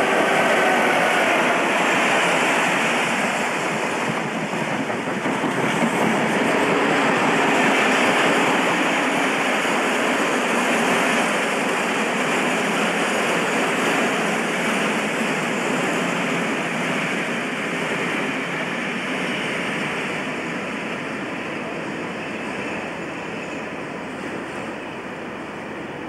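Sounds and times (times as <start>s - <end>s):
train wheels rushing on rails: 0.0s - 26.0s.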